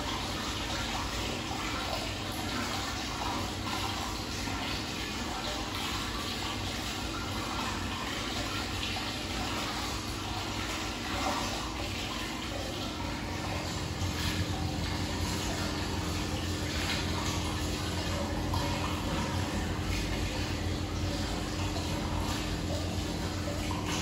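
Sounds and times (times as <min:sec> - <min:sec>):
water running into a bath: 0:00.0 - 0:24.0
water sloshing and splashing: 0:00.0 - 0:24.0.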